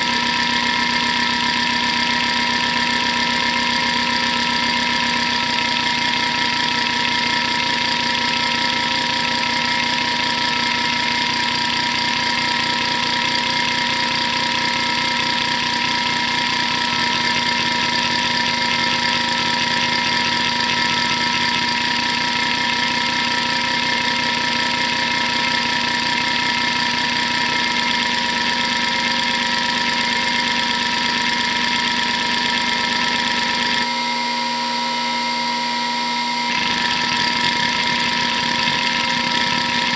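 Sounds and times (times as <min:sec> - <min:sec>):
hard drive seek chatter: 0:00.0 - 0:33.8, 0:36.5 - 0:39.9
hard drive spinning whine: 0:00.0 - 0:39.9.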